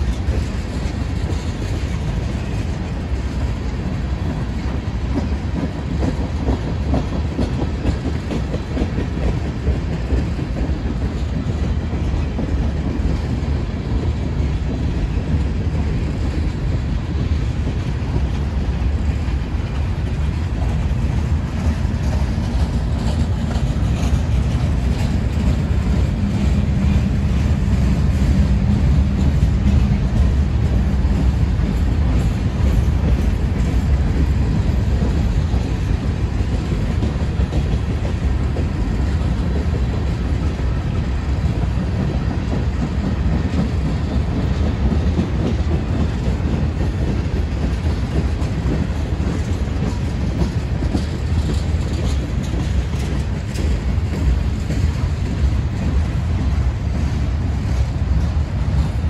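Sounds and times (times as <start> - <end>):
freight train rumbling past: 0.0 - 59.0
train wheels clicking over rail joints: 0.0 - 59.0.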